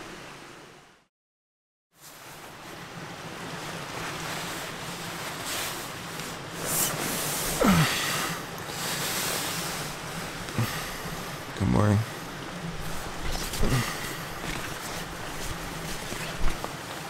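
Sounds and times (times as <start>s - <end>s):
nylon fabric rustling: 2.0s - 17.0s.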